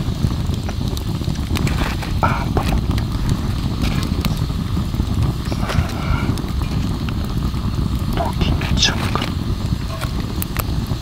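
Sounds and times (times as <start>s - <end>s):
crackles and pops: 0.0s - 11.0s
food deep-frying in oil: 0.0s - 11.0s
low rumble of fire: 0.0s - 11.0s.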